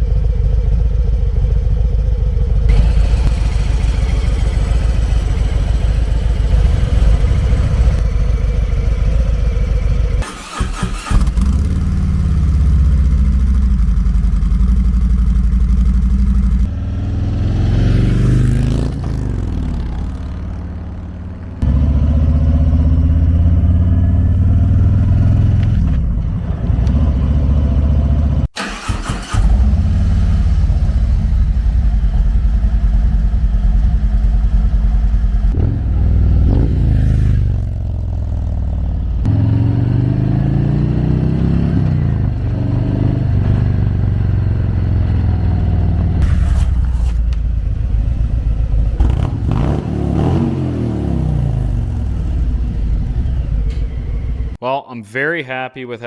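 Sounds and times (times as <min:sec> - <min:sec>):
motorcycle engine accelerating: 0:00.0 - 0:54.6.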